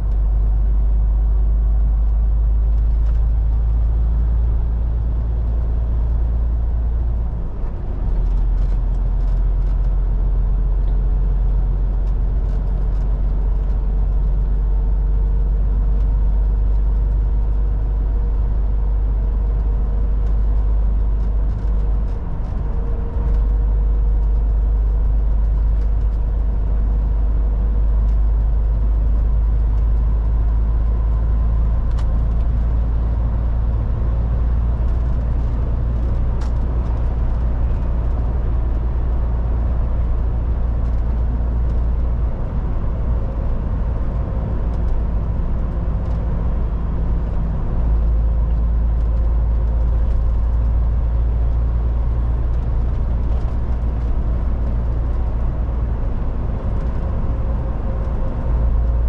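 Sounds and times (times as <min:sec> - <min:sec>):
truck engine drone: 0:00.0 - 0:59.0
tyre and road noise: 0:00.0 - 0:59.0.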